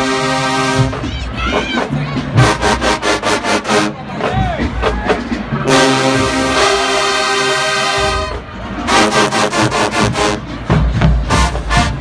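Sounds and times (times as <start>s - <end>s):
heavy low brass: 0.0s - 1.6s, 2.3s - 12.0s
drums: 0.0s - 12.0s
marching band brass: 0.0s - 12.0s.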